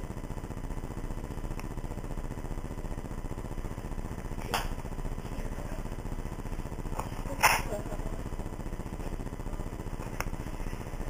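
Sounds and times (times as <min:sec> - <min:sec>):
line crackle: 0:00.0 - 0:11.0
telephone line hum: 0:00.0 - 0:11.0.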